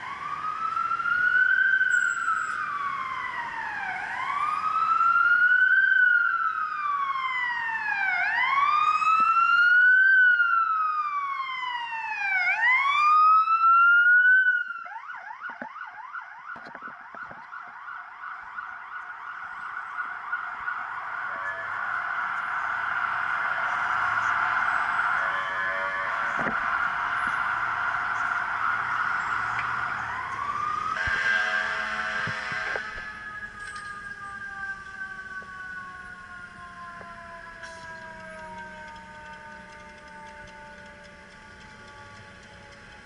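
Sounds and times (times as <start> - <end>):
electronic siren wailing: 0.0 - 43.0
fast siren yelp: 0.0 - 43.0.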